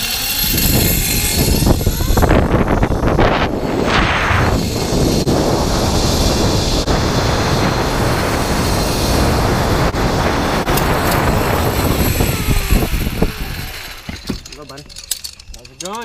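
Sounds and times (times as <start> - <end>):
zip-line pulleys whirring on cable: 0.0 - 16.0.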